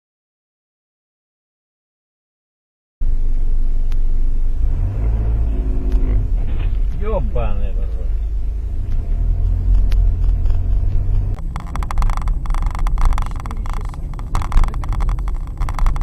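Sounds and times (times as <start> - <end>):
car engine and road noise: 3.0 - 16.0.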